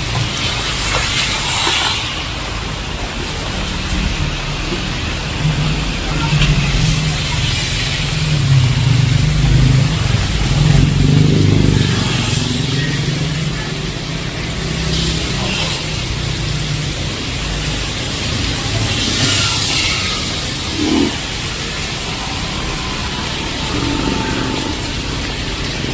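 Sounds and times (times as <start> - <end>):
heavy rain hissing: 0.0 - 25.9
vehicle engine running: 2.4 - 25.9.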